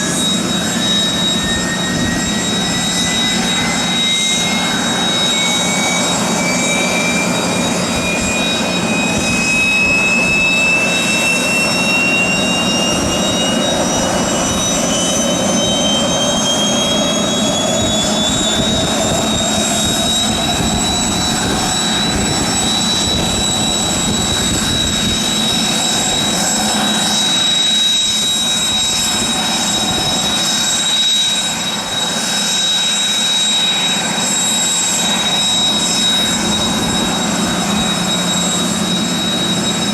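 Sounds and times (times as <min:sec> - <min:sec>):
jet engine spooling up: 0:00.0 - 0:39.9
jet engine steady high whine: 0:00.0 - 0:39.9
steady jet rush: 0:00.0 - 0:39.9.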